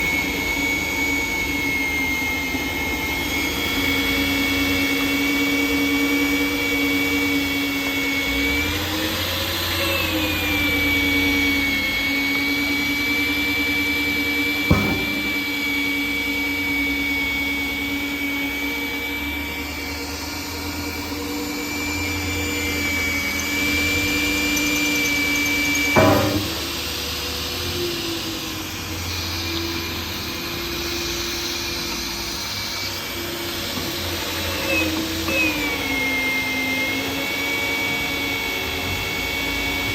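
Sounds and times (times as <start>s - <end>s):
magnetic drill whining: 0.0s - 39.9s.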